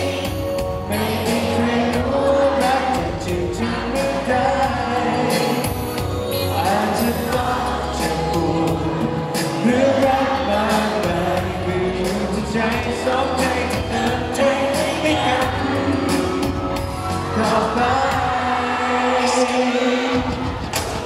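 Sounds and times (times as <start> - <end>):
man singing into microphone: 0.0 - 20.5.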